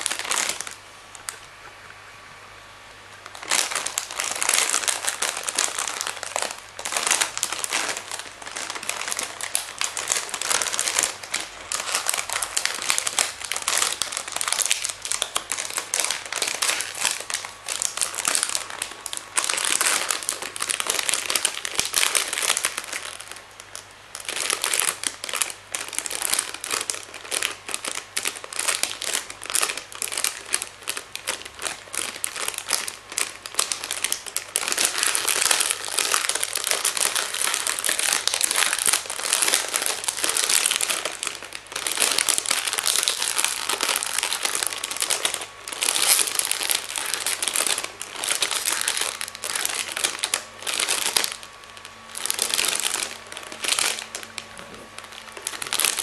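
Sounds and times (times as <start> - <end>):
plastic crinkling: 0.0 - 2.0, 3.1 - 56.0.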